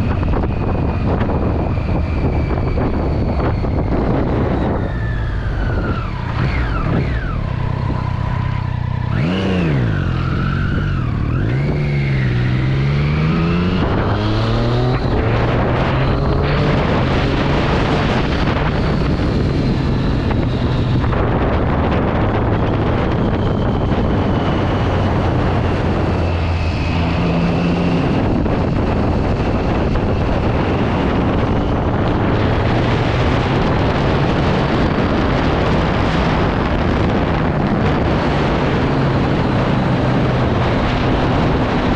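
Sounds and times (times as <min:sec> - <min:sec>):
motorcycle engine revving: 0:00.0 - 0:41.9
wind rushing on microphone: 0:00.0 - 0:41.9.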